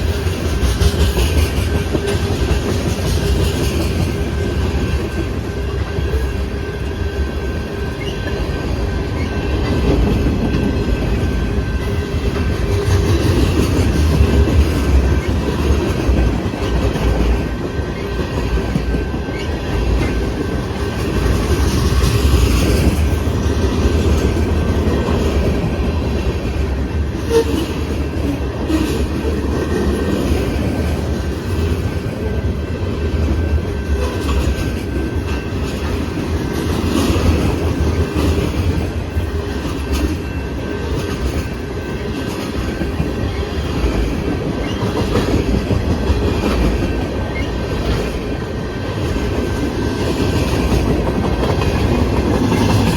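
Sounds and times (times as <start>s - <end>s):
train rumbling: 0.0s - 52.9s.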